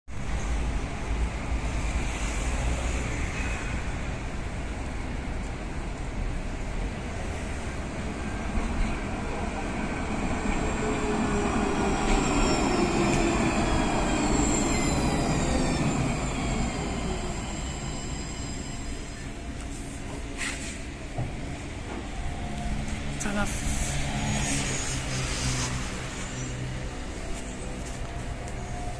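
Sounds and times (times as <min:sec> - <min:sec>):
tram braking: 0:00.1 - 0:28.9.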